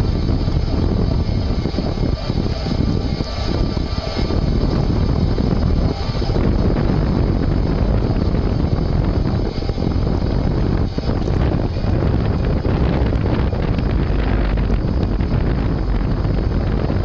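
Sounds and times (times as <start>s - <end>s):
electric bicycle motor drone: 0.0s - 17.0s
wind buffeting microphone: 0.0s - 17.0s.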